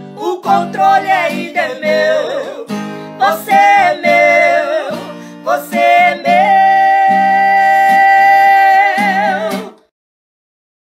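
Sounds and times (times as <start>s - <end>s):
acoustic guitar strummed chords: 0.0s - 9.9s
person singing: 0.0s - 9.9s.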